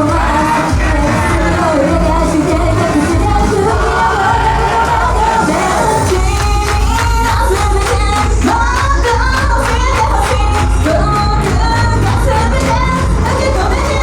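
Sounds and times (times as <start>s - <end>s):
female voices singing: 0.0s - 14.0s
pop backing track with driving beat: 0.0s - 14.0s.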